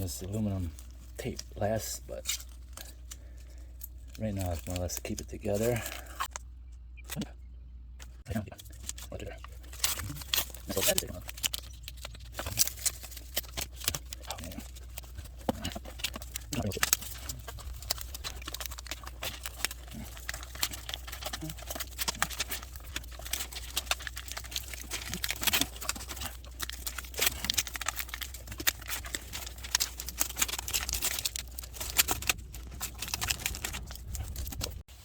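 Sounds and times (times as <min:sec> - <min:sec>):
aluminum tape crinkling: 0:00.0 - 0:07.2, 0:08.0 - 0:35.0.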